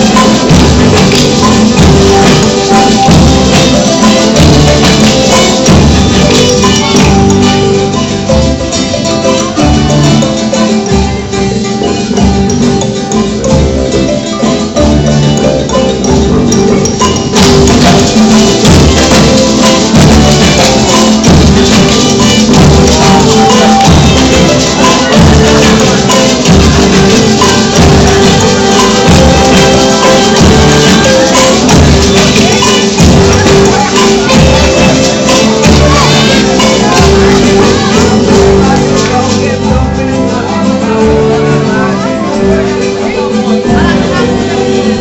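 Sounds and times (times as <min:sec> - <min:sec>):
percussion steady beat: 0:00.0 - 0:45.0
sustained musical notes: 0:00.0 - 0:45.0.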